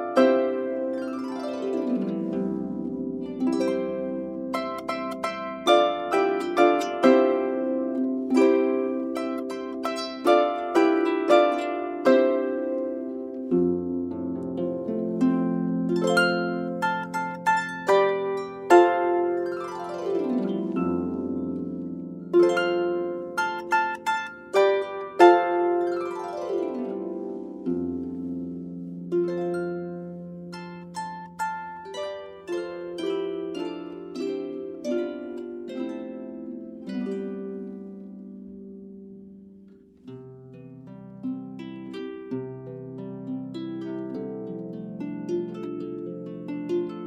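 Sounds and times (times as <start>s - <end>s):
solo harp playing: 0.0s - 47.0s.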